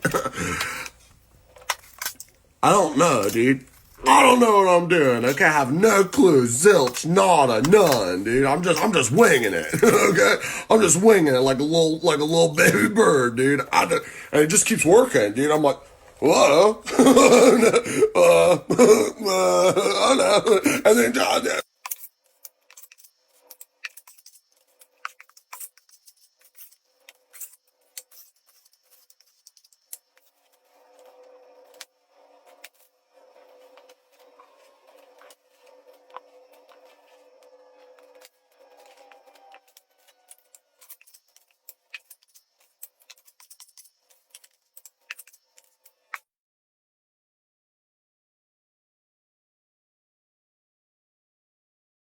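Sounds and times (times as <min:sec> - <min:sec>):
hand tools clicking and scraping: 0:00.0 - 0:46.2.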